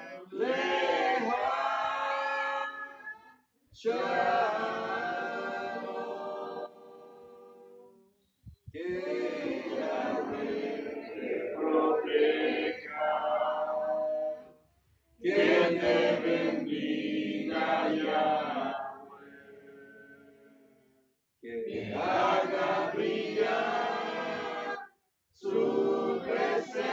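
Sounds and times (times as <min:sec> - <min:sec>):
group of people singing: 0:00.0 - 0:07.9, 0:08.7 - 0:14.6, 0:15.2 - 0:20.4, 0:21.4 - 0:26.9.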